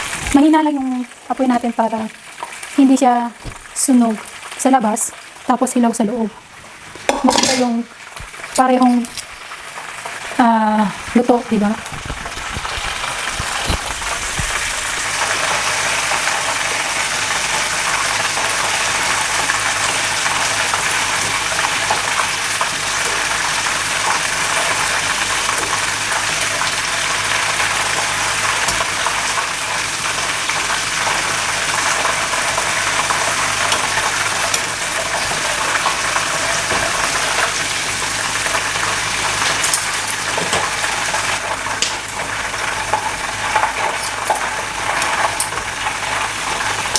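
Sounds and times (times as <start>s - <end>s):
oysters sizzling in hot oil: 0.0s - 46.9s
small crackles of frying: 0.0s - 46.9s.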